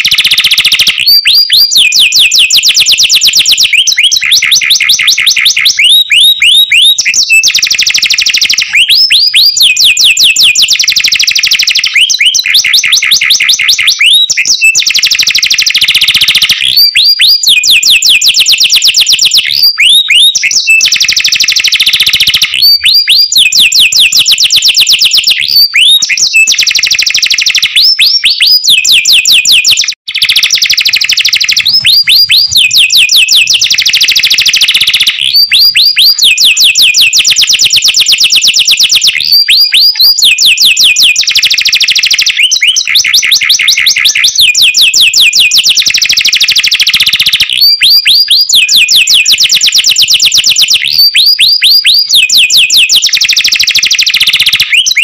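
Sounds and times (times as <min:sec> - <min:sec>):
canary singing: 0:00.0 - 0:55.0.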